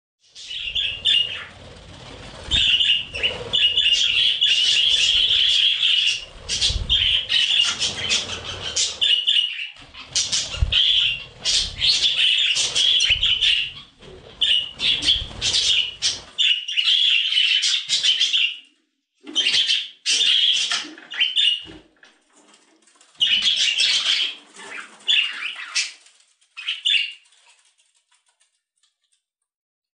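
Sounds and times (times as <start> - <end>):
budgerigars chirping and chattering: 0.3 - 18.7, 19.3 - 21.8, 23.2 - 26.0, 26.6 - 27.3.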